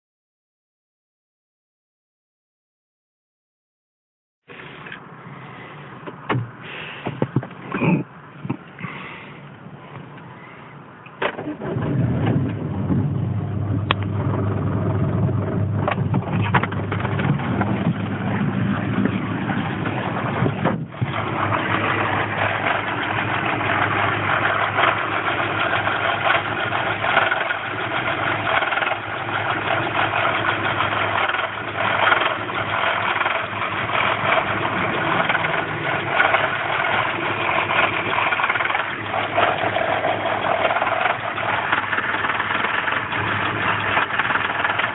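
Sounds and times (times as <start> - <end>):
car engine running unevenly: 4.5 - 44.9.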